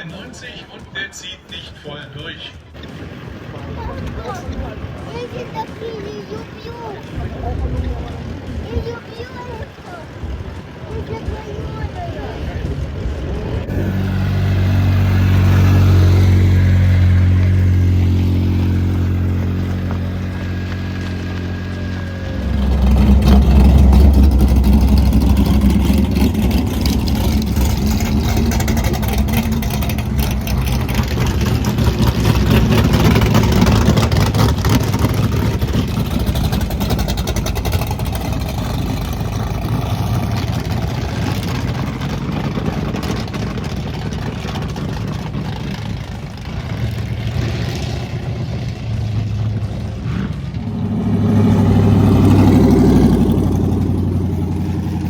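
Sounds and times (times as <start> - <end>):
loud racing car engines: 0.0 - 55.0.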